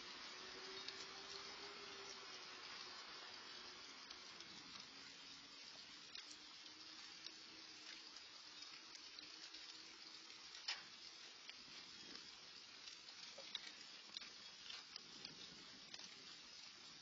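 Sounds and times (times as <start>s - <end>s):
rain falling: 0.0s - 17.0s
raindrop ticks: 0.0s - 17.0s.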